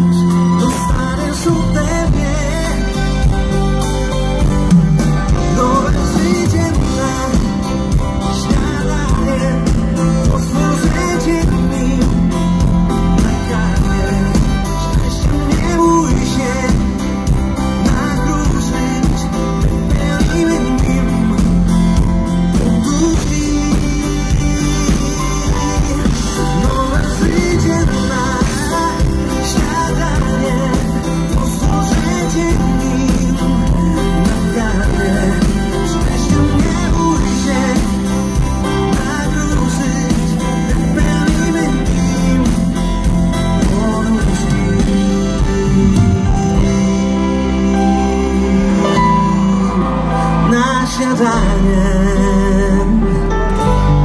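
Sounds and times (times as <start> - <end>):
live pop-rock band playing: 0.0 - 54.0
person singing: 0.0 - 54.0.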